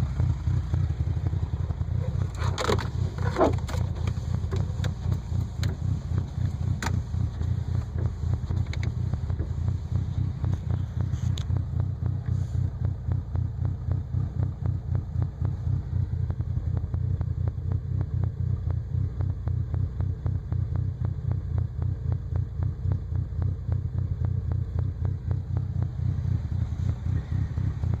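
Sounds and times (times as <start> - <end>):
engine idling roughly: 0.0 - 28.0.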